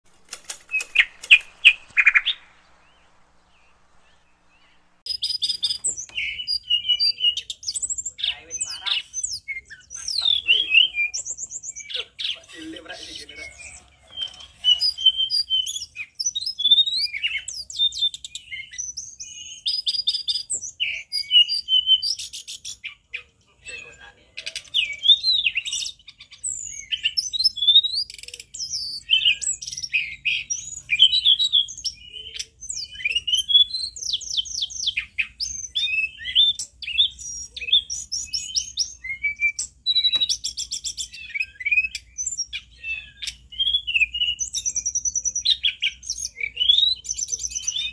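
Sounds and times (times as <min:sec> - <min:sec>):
bird singing whistled trills: 0:00.6 - 0:47.9.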